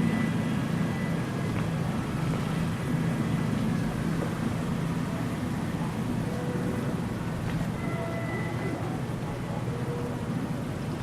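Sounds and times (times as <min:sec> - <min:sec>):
low hum of engines: 0:00.0 - 0:11.0
river water flowing gently: 0:00.0 - 0:11.0.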